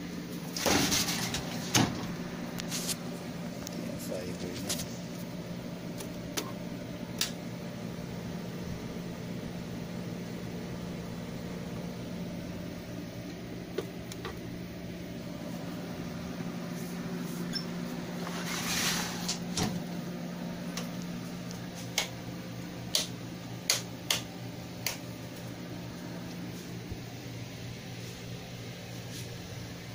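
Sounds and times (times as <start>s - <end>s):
low machine hum: 0.0s - 29.9s.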